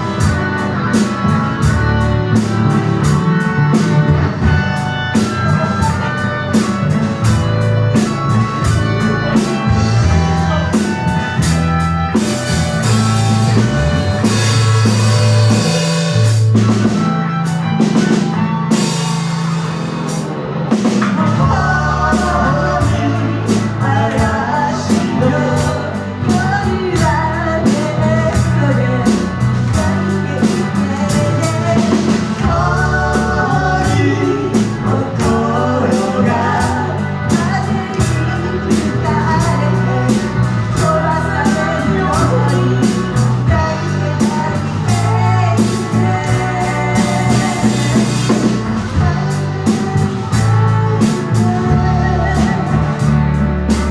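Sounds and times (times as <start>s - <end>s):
bass: 0.0s - 53.9s
drum kit beat: 0.0s - 53.9s
electric guitar: 0.0s - 53.9s
person singing: 0.0s - 53.9s.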